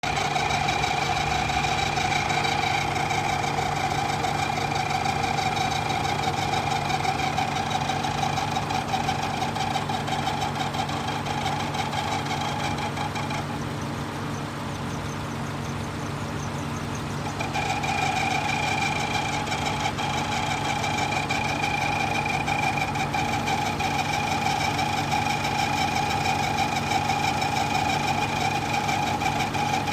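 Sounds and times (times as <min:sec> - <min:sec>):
car engine idling: 0:00.0 - 0:29.9
two-tone whine: 0:00.0 - 0:29.9.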